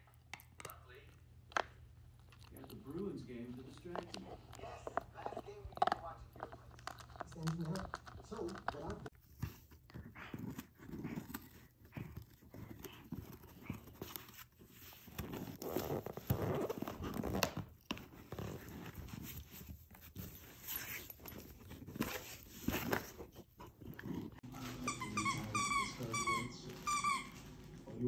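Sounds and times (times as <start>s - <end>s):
puppy chewing cardboard: 0.0s - 28.0s.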